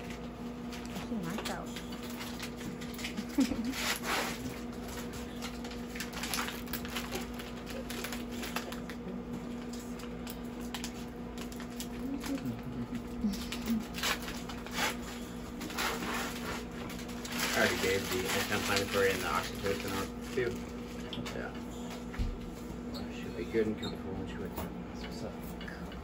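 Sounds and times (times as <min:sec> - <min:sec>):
electrical hum of equipment: 0:00.0 - 0:26.0.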